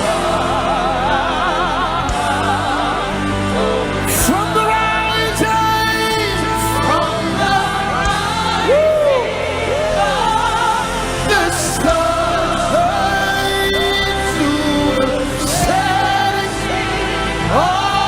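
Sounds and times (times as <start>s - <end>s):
band accompaniment: 0.0s - 18.0s
person singing: 0.0s - 18.0s.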